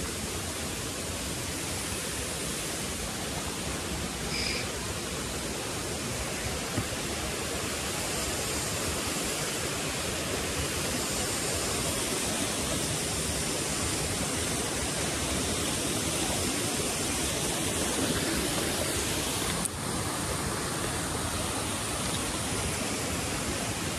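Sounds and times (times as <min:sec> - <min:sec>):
mountain stream rushing: 0:00.0 - 0:23.9.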